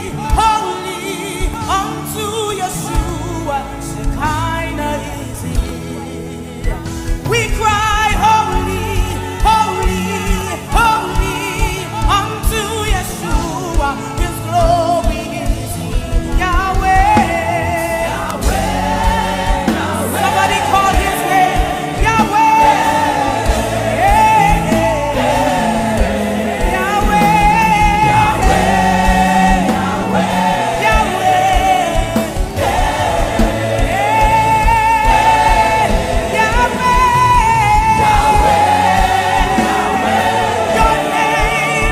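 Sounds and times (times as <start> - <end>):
band with steady drum beat: 0.0 - 41.9
singers with melodic runs: 0.0 - 41.9.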